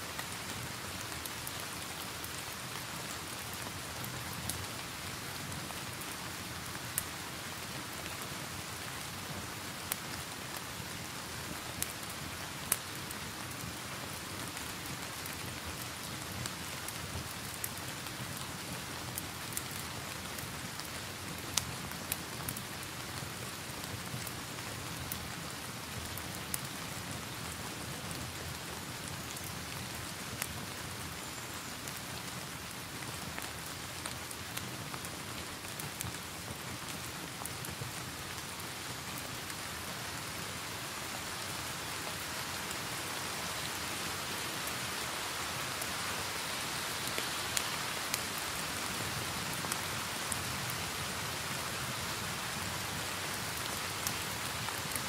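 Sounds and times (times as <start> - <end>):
steady rain: 0.0 - 55.0
fire crackling: 0.1 - 55.0.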